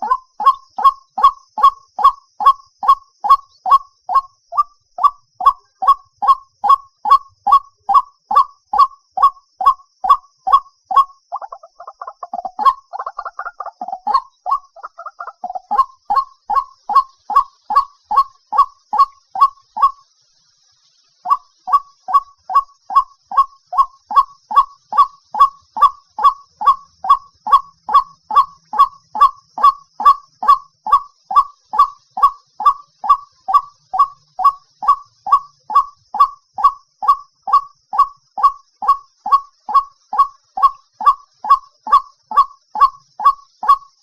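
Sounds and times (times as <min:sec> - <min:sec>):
waterhen calling: 0:00.0 - 0:20.0, 0:21.2 - 0:43.9.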